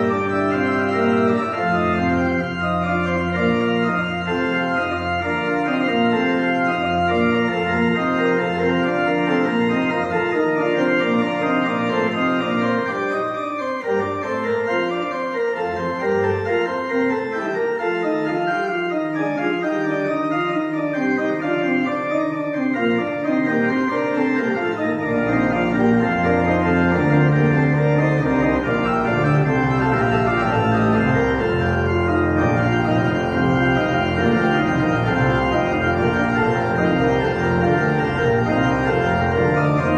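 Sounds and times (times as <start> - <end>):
church organ playing: 0.0 - 39.9
deep organ pedal bass notes: 0.0 - 39.9.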